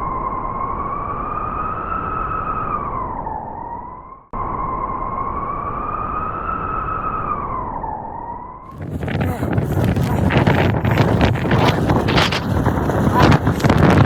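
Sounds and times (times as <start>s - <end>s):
whistling wind tone: 0.1s - 14.0s
howling blizzard wind: 0.2s - 14.0s.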